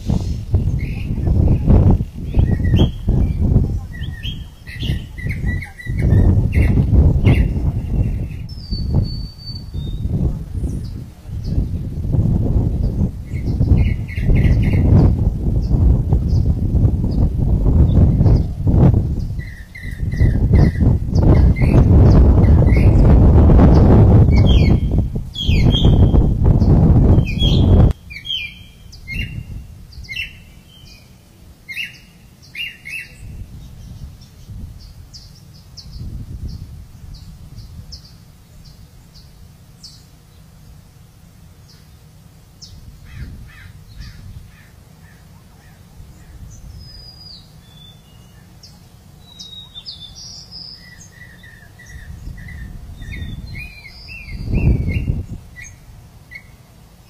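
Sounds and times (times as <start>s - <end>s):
birds chirping and calling: 0.0s - 40.5s, 41.5s - 57.0s.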